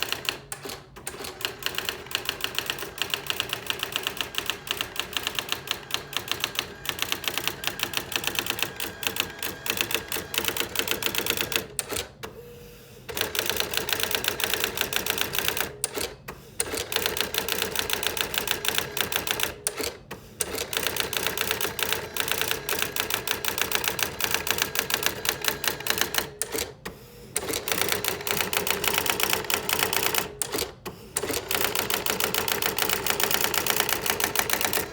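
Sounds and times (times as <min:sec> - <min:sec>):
electronic typewriter printing clatter: 0:00.0 - 0:12.1, 0:13.1 - 0:26.8, 0:27.4 - 0:34.9.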